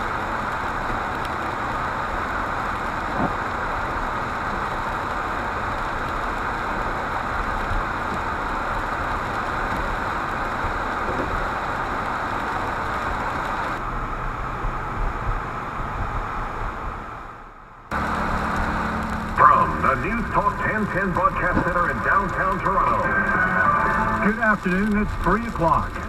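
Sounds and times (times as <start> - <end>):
car engine rumble: 0.0 - 26.0
road and tyre noise: 0.0 - 26.0.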